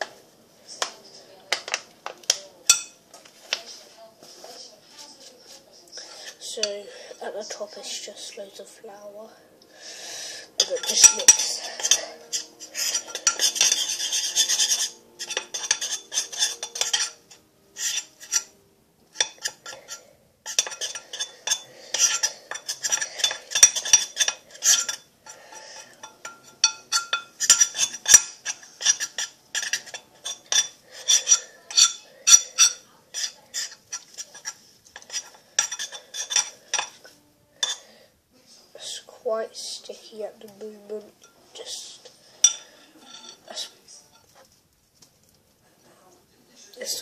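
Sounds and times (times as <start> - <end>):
utensil scraping and clinking bowl: 1.5 - 4.4, 5.2 - 8.7, 9.9 - 38.0, 38.8 - 44.6.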